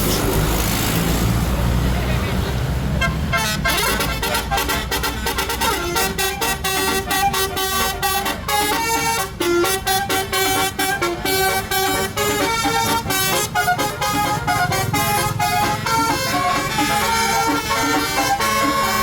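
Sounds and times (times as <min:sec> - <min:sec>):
bus musical horn melody: 0:02.9 - 0:19.0.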